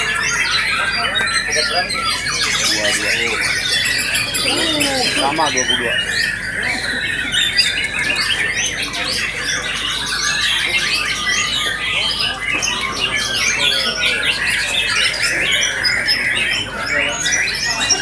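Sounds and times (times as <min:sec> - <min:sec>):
songbirds singing: 0:00.0 - 0:18.0.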